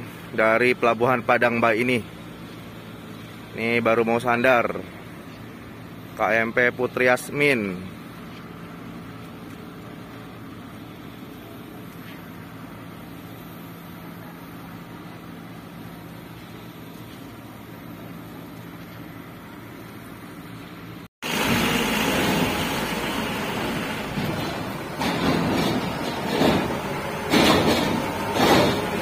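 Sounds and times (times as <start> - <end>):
ferry engines humming: 0.0 - 29.0
truck engine rumbling: 0.0 - 29.0.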